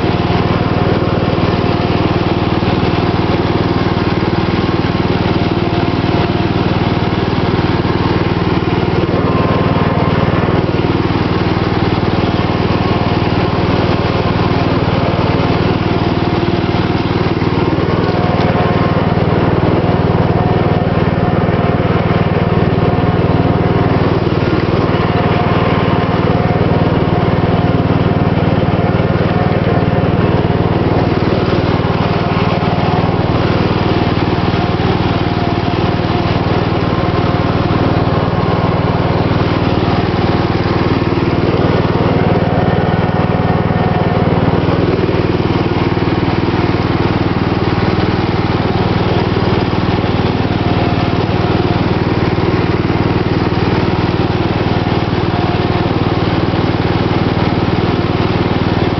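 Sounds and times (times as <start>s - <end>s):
lawn mower engine running: 0.0s - 58.9s.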